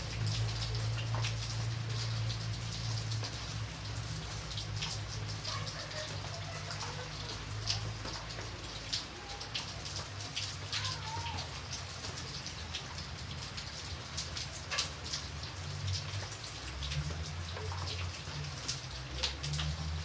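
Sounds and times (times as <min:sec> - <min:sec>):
raindrops tapping on a surface: 0:00.0 - 0:20.0.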